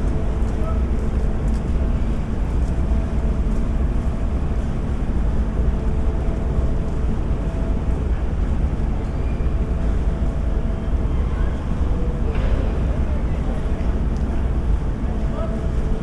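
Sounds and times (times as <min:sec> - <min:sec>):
low harbour rumble: 0:00.0 - 0:16.0.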